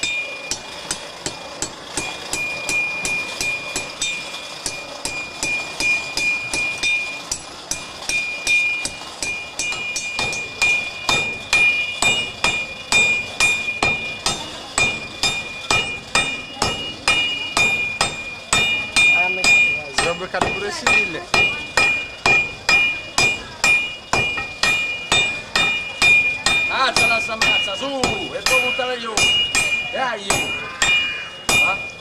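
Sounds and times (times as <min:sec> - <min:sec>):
hammer striking metal on anvil: 0:00.0 - 0:32.0.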